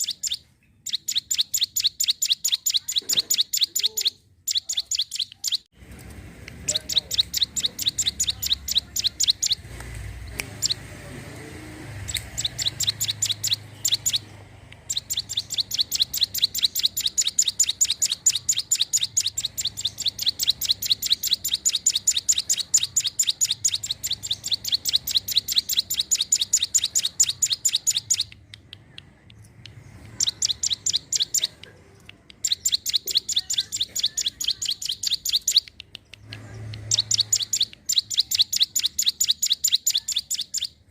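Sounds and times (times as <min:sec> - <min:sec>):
bird singing chattering trills: 0:00.0 - 0:05.7, 0:06.6 - 0:11.0, 0:11.9 - 0:40.9.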